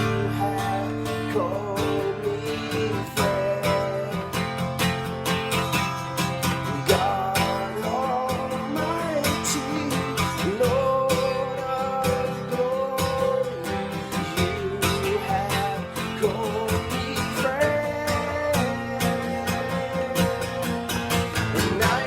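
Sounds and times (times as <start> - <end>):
sliding guitar melody: 0.0 - 22.0
strummed acoustic guitar: 0.0 - 22.0.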